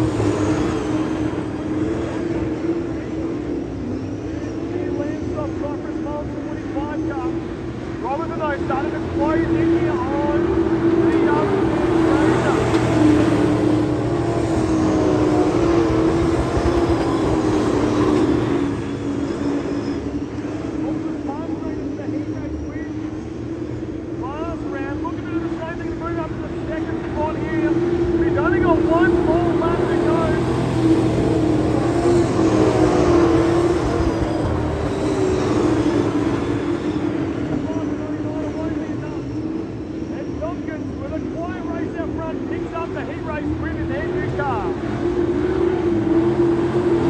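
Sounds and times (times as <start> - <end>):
race car engines at high revs: 0.0 - 47.0
race car passing close: 0.0 - 47.0.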